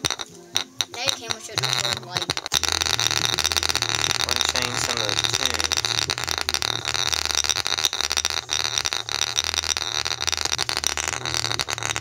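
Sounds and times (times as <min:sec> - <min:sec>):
golf ball bouncing: 0:00.0 - 0:12.0
rattling buzz of overdriven speaker: 0:00.0 - 0:12.0
deep bass from portable speaker: 0:01.6 - 0:12.0.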